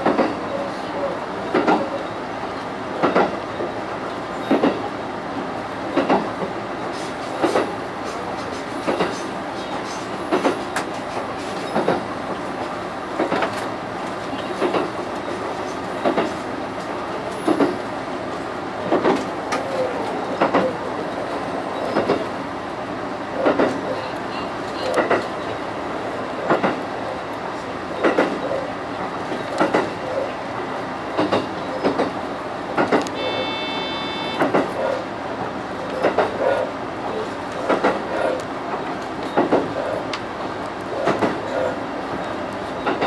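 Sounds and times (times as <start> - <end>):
train rumbling on track: 0.0 - 43.0
train wheels clicking over joints: 1.4 - 2.0, 2.9 - 4.9, 5.8 - 22.4, 23.3 - 24.0, 24.6 - 33.2, 34.2 - 43.0.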